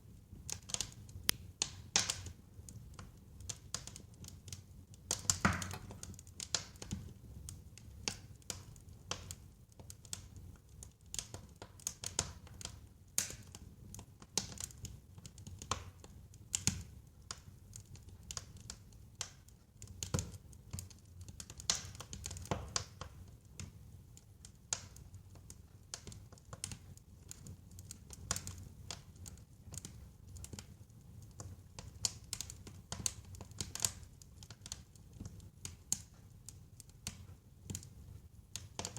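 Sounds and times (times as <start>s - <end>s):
wood fire crackling and popping: 0.1s - 38.9s.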